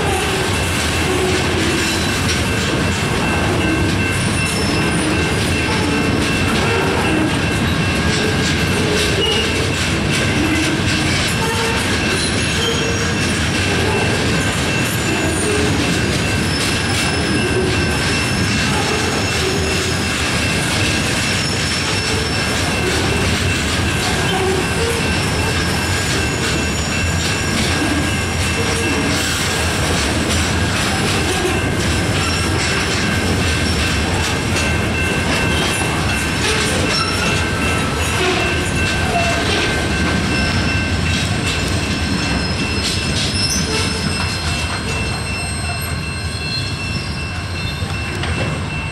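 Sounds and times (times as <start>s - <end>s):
train wheels rumbling and clicking: 0.0s - 48.9s.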